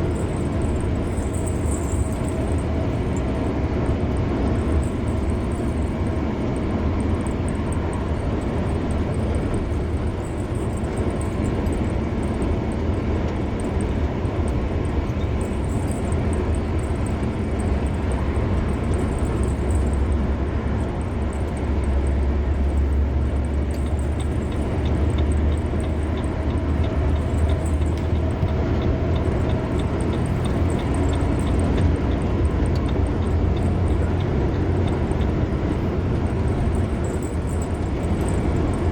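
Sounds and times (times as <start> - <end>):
car road noise: 0.0 - 38.9
faint regular ticking: 4.2 - 38.9.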